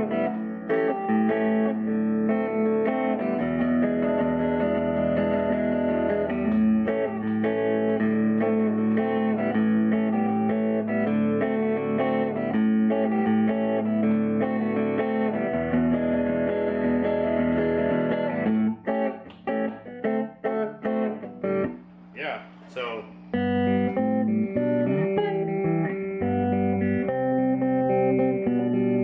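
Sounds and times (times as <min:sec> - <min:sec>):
clean electric guitar: 0:00.0 - 0:29.0.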